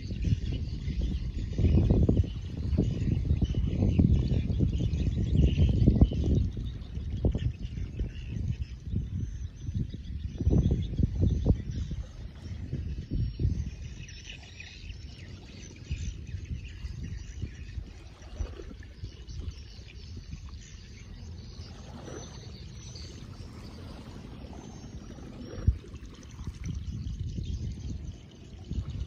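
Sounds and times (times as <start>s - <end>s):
low uneven rumble: 1.1s - 29.0s.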